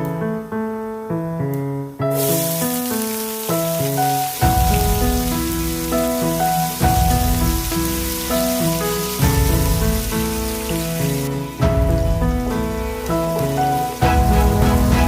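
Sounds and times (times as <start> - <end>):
piano music: 0.0 - 15.0
food sizzling in hot oil: 2.1 - 15.0.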